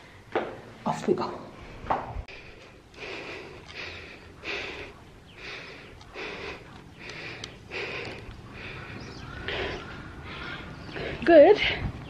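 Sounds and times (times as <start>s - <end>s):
woman breathing hard: 2.2s - 12.0s.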